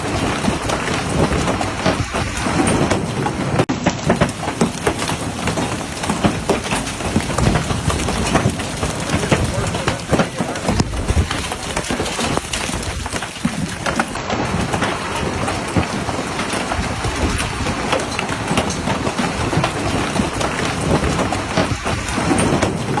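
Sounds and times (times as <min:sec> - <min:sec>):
hail clattering: 0:00.0 - 0:23.0.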